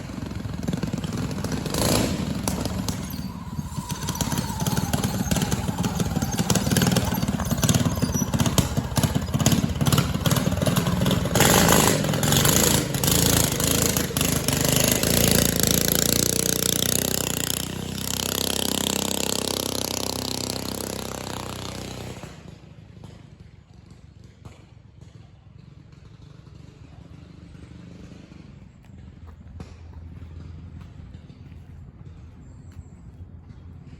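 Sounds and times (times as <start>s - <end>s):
small engine running hard: 0.0s - 33.9s.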